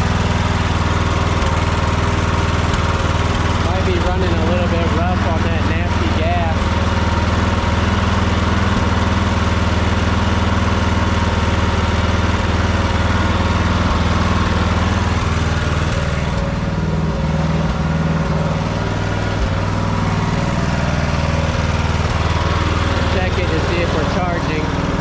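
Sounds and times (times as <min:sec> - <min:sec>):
small tractor engine running: 0:00.0 - 0:25.0.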